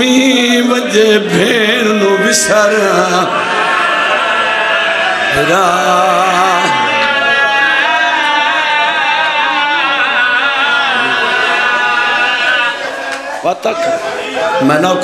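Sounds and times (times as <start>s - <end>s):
men singing through microphone: 0.0s - 13.1s.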